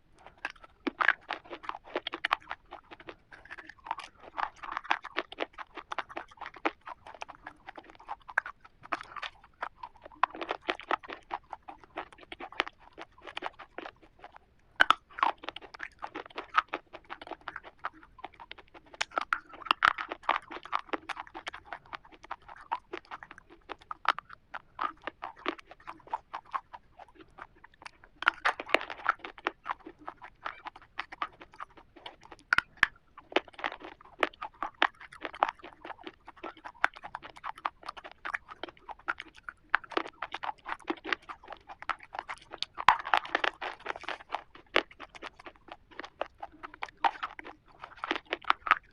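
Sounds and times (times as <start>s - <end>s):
crunching chocolate wafer: 0.1s - 48.9s.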